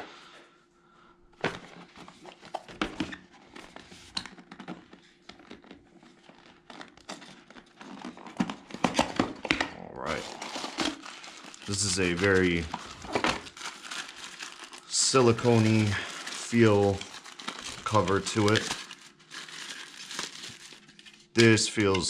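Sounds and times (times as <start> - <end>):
plastic wrap crinkling: 2.2 - 22.0.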